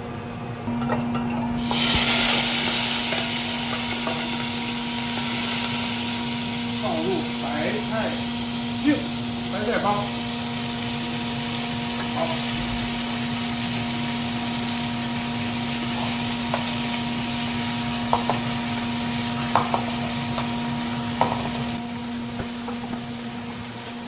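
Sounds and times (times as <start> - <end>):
vegetables sizzling in hot oil: 1.6 - 24.0.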